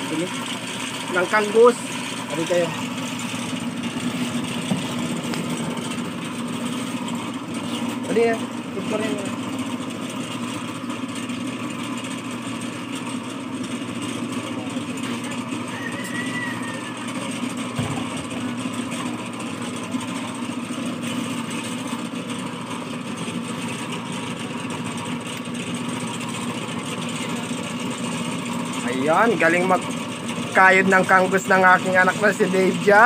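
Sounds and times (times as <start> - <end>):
coconut grater rasping: 0.0 - 33.0.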